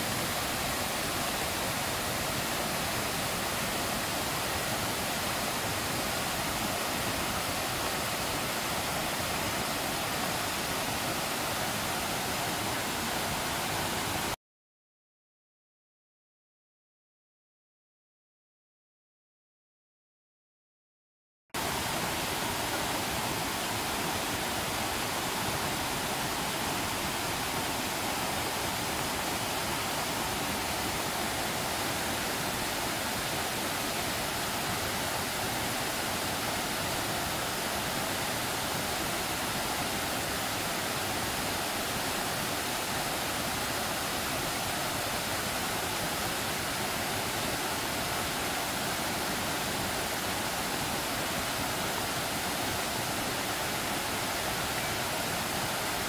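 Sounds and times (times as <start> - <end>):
waterfall rushing: 0.0 - 14.4, 21.6 - 56.0.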